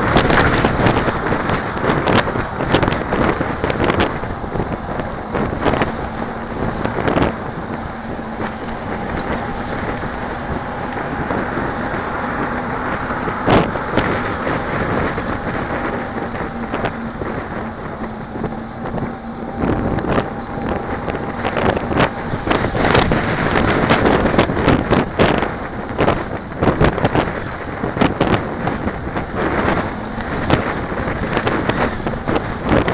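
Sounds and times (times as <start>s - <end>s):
faint steady whine: 0.0s - 32.9s
road noise: 0.0s - 32.9s
wind rushing over microphone: 0.0s - 32.9s.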